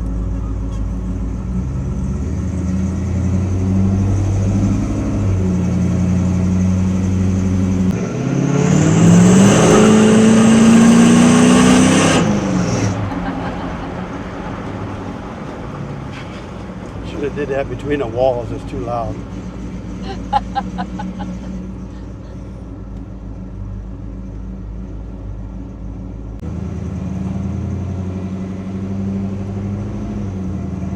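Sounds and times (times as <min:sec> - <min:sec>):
pickup truck engine revving: 0:00.0 - 0:30.9.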